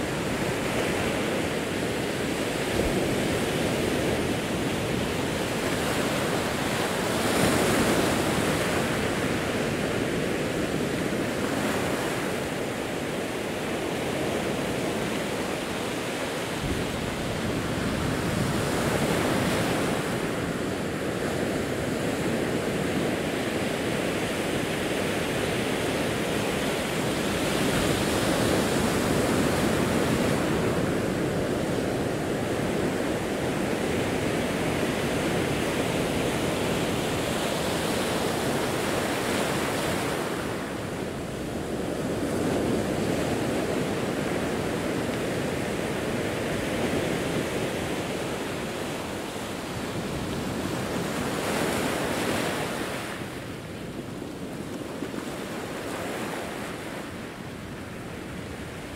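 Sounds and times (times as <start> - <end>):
waves breaking on rocky shore: 0.0 - 58.9.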